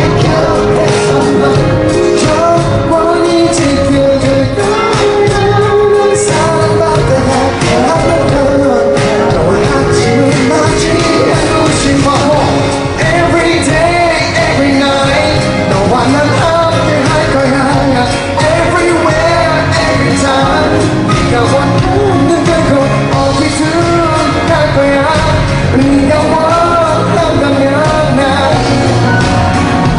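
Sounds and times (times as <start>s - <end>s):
band playing: 0.0s - 29.9s
drums beating steadily: 0.0s - 29.9s
man singing pop song: 0.0s - 29.9s.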